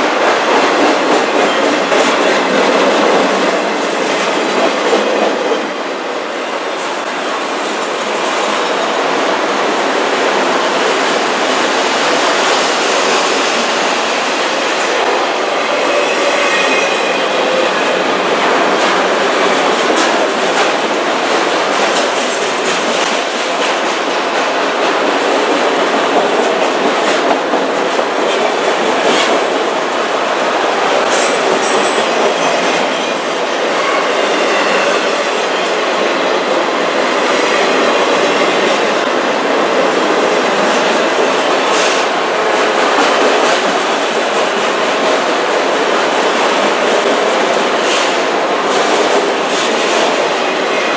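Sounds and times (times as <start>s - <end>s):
train wheels on rail: 0.0s - 50.9s.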